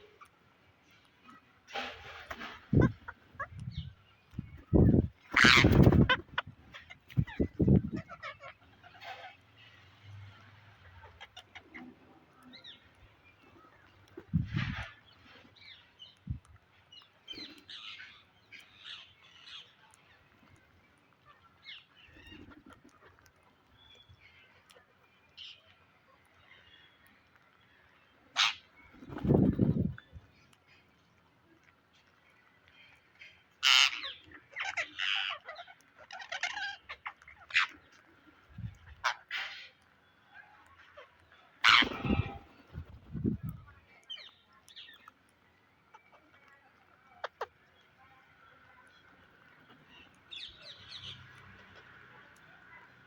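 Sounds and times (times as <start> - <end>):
parrots squawking and chattering: 1.2 - 16.2, 16.9 - 31.1, 32.0 - 53.0.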